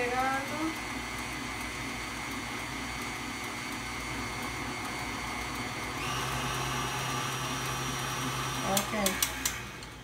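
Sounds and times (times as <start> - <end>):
electric stand mixer whine: 0.0 - 10.0.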